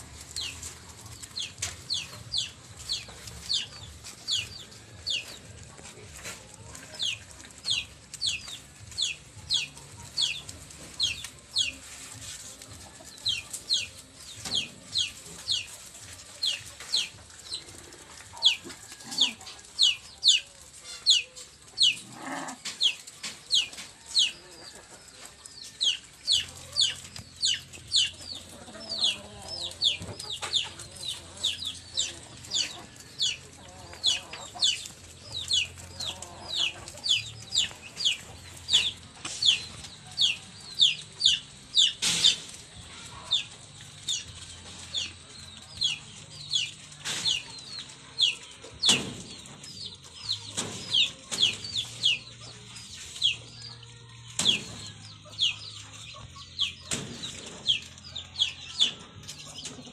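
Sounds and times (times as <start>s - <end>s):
chickens peeping: 0.0s - 59.9s.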